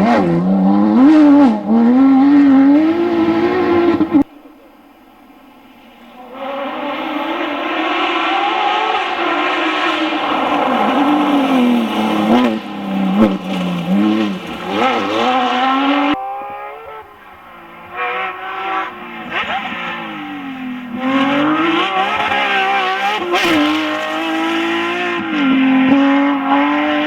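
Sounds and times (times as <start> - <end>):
car engine revving: 0.0 - 4.4, 6.2 - 27.0.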